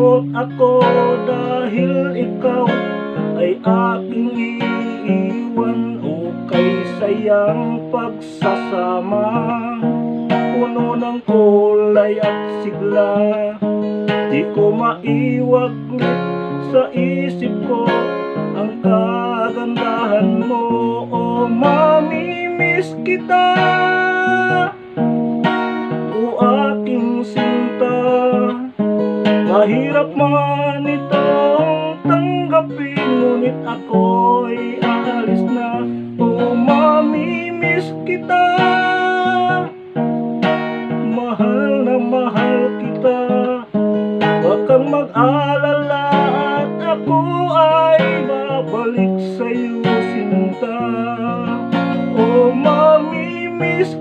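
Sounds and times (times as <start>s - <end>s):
acoustic guitar strummed and picked: 0.0s - 54.0s
man singing: 0.0s - 54.0s.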